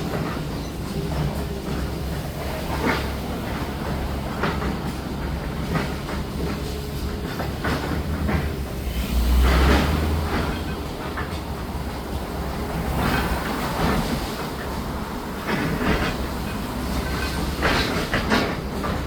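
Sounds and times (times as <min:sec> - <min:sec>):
demolition machinery rumbling: 0:00.0 - 0:19.0.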